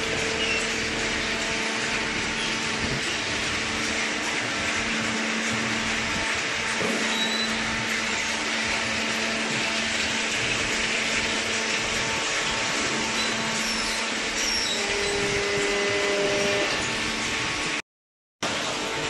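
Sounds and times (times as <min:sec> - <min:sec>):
hydraulic baler hum and hiss: 0:00.0 - 0:17.8.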